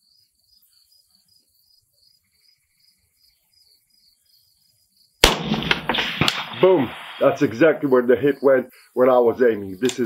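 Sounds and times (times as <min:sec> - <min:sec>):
insects trilling: 0:00.0 - 0:05.2, 0:06.5 - 0:10.0.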